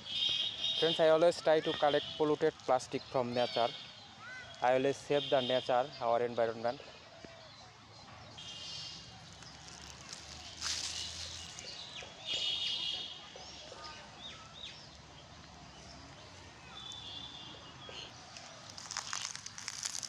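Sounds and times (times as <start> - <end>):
small birds chirping: 1.8 - 20.0.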